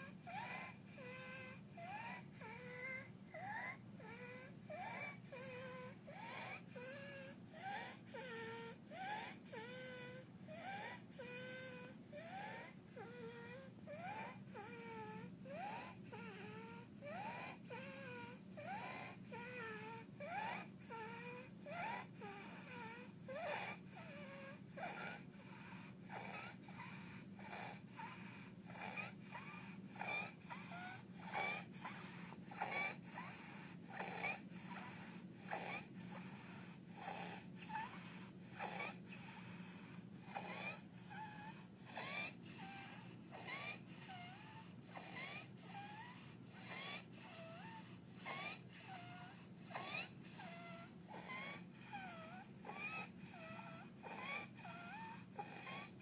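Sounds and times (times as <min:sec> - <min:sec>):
infant breathing with stridor: 0:00.0 - 0:56.0.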